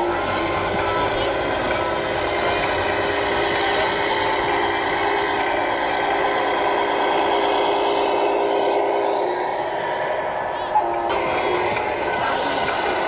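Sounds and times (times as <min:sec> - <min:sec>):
simulated diesel engine drone: 0:00.0 - 0:13.0.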